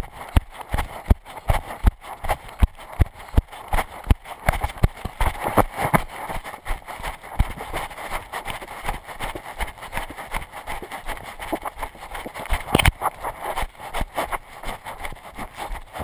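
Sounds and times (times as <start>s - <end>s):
running footsteps on dirt: 0.0s - 16.0s.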